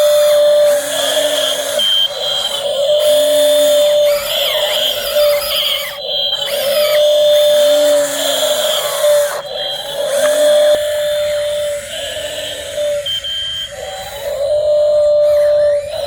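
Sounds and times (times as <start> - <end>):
servo motors whining: 0.0 - 16.0.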